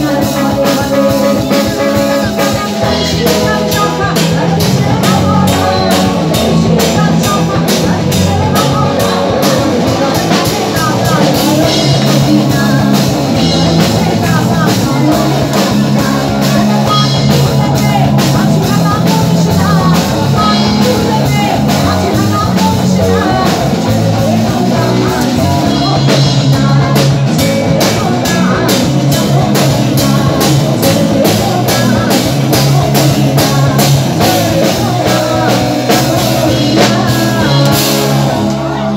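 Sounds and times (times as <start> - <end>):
drum kit beat: 0.0 - 38.9
electric guitar: 0.0 - 38.9
person singing: 0.0 - 38.9.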